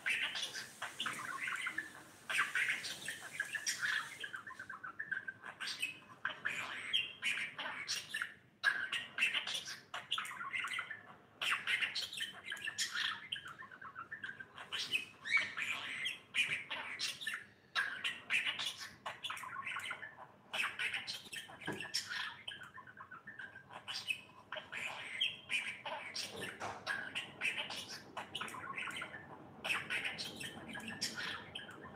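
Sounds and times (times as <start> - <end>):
budgerigar chattering: 0.0 - 31.9.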